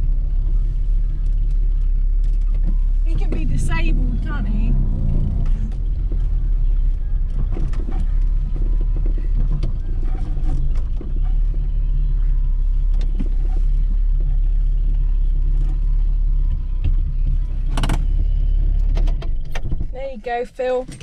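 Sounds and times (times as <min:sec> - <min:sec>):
car engine running at low speed: 0:00.0 - 0:21.0.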